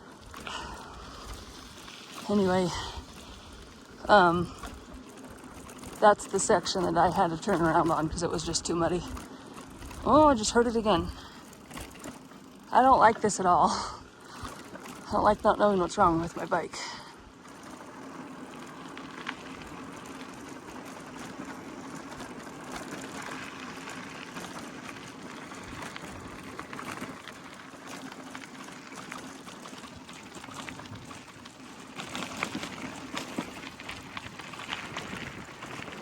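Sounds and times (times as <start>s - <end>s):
bike tyre noise on road: 0.0s - 36.0s.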